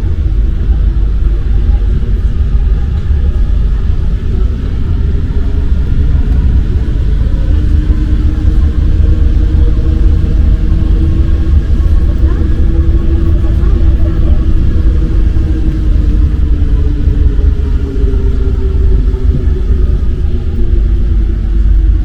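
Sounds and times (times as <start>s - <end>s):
faint steady hum: 0.0s - 22.0s
metro train rumble: 0.0s - 22.0s.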